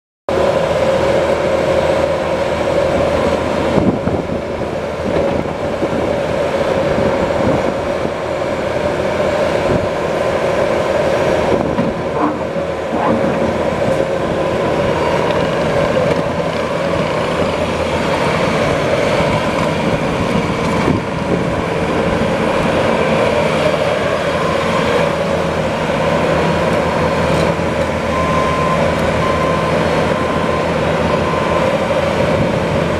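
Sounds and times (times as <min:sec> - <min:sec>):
diesel engine under load: 0:00.3 - 0:32.9.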